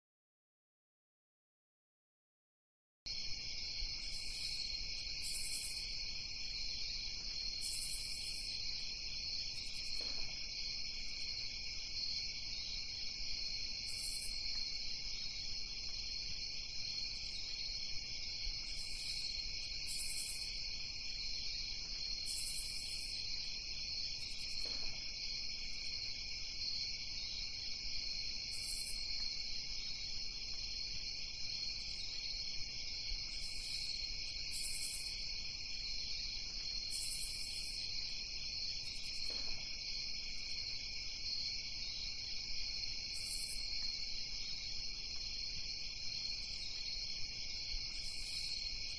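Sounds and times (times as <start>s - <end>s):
insect chorus: 3.1s - 48.9s.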